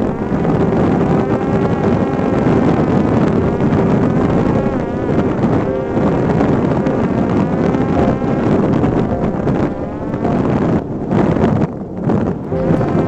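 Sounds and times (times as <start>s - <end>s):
drone motor buzzing whine: 0.0s - 13.0s
wind noise: 0.0s - 13.0s.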